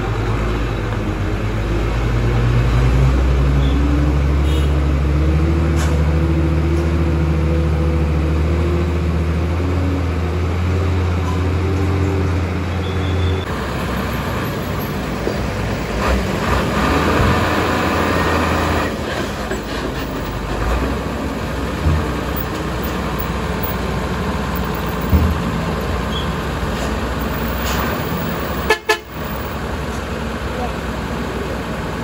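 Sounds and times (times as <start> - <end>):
diesel truck engines rumbling: 0.0 - 32.0
passing road traffic: 0.0 - 32.0.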